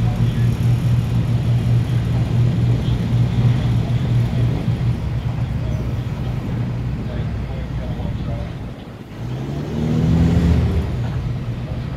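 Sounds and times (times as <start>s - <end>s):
low engine drone: 0.0s - 11.9s.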